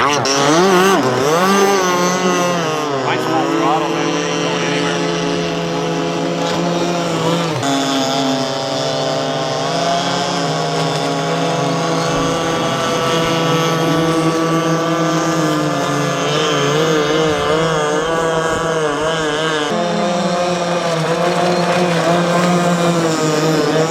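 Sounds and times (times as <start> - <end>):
model boat gas engine running: 0.0 - 23.9.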